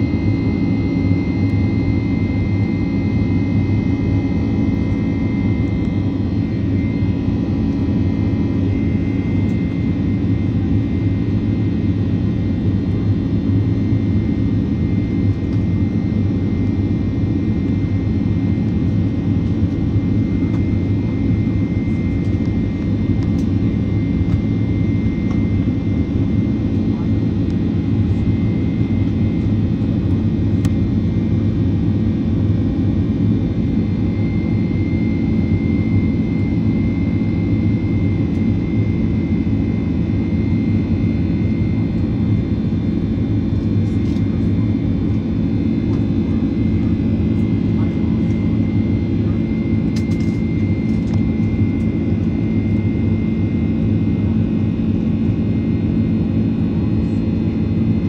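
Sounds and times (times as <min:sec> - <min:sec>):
jet engine cabin hum with whine: 0:00.0 - 0:58.0.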